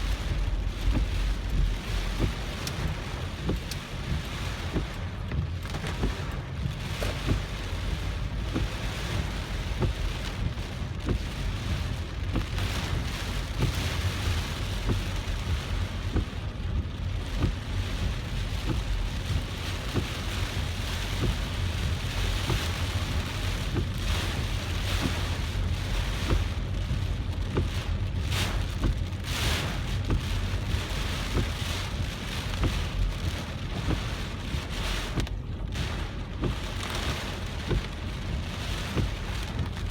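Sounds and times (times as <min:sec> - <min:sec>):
car rumbling on wet road: 0:00.0 - 0:39.9
heavy rain on a car: 0:00.0 - 0:39.9.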